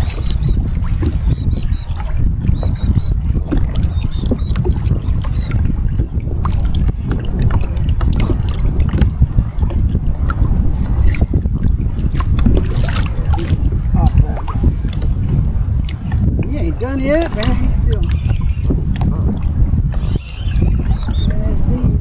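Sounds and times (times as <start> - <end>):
water splashing around kayak: 0.0 - 22.0
wind buffeting microphone: 0.0 - 22.0.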